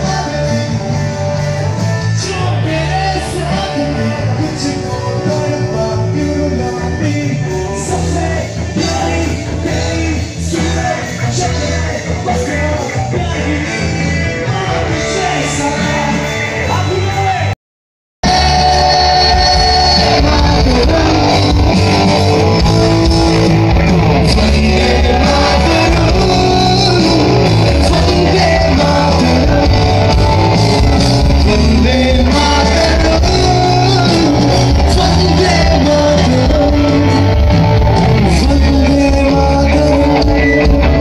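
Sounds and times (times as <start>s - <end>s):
person singing: 0.0s - 17.0s, 18.2s - 41.0s
live rock band playing: 0.0s - 17.6s, 18.2s - 41.0s.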